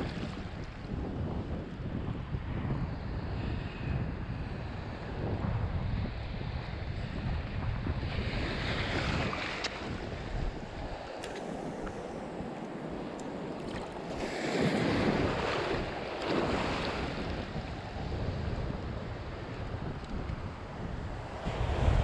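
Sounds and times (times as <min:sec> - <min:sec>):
waves washing in shallow water: 0:00.0 - 0:22.0
wind buffeting microphone: 0:00.0 - 0:22.0.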